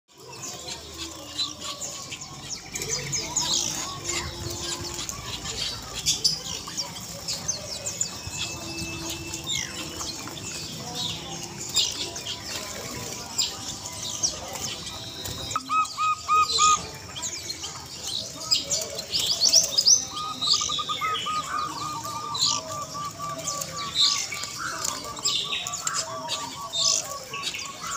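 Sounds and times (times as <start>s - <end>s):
caged birds chirping: 0.1s - 27.9s.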